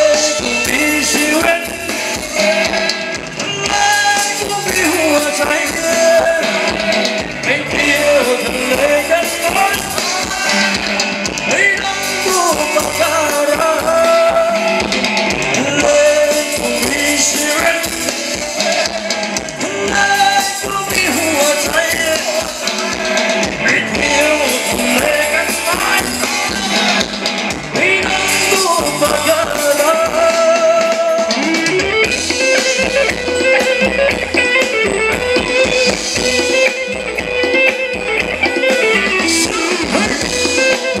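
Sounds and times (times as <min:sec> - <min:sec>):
band accompaniment: 0:00.0 - 0:41.0
drums: 0:00.0 - 0:41.0
guitar: 0:00.0 - 0:41.0
person singing: 0:00.0 - 0:41.0.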